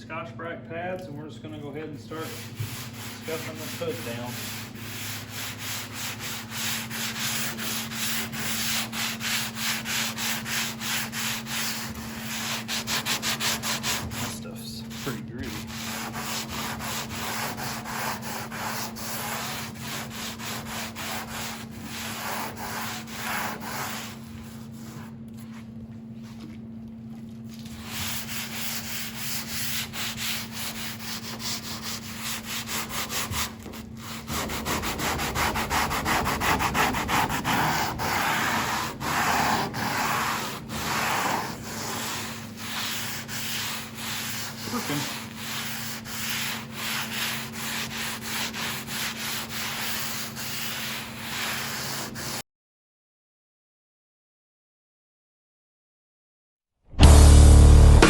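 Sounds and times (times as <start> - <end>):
scouring pad scrubbing wet metal: 1.6 - 52.4.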